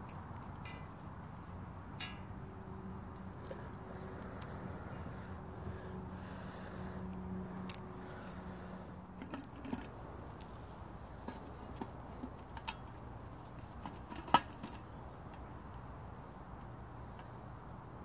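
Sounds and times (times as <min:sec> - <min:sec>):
twig fire crackling: 0:02.9 - 0:17.7.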